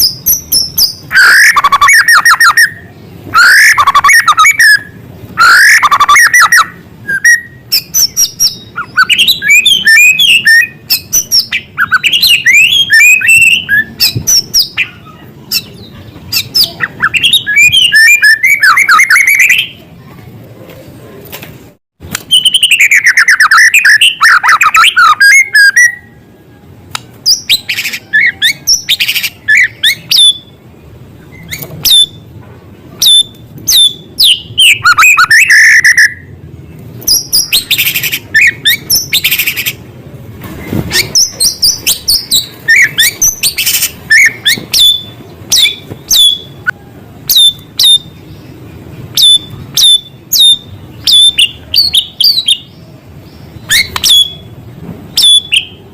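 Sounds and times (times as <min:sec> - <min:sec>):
bird singing varied song: 0:00.0 - 0:19.9, 0:22.1 - 0:32.4, 0:33.0 - 0:39.9, 0:40.6 - 0:55.9.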